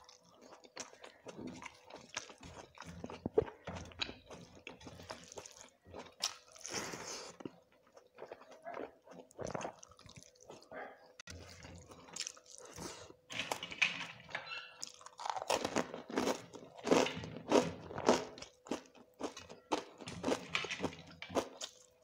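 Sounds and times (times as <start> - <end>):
chewing and crunching rice: 0.0 - 22.0.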